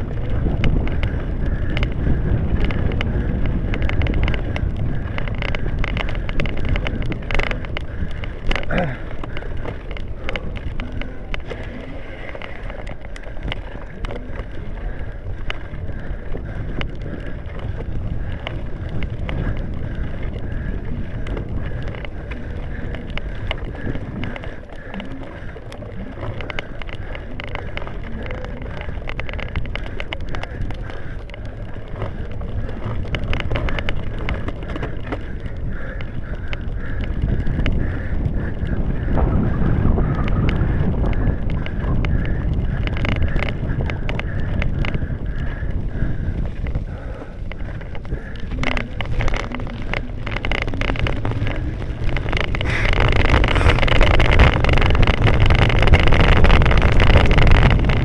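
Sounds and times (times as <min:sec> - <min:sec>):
bicycle rattling clicks and knocks: 0:00.0 - 0:58.0
wind rumble on microphone: 0:00.0 - 0:58.0.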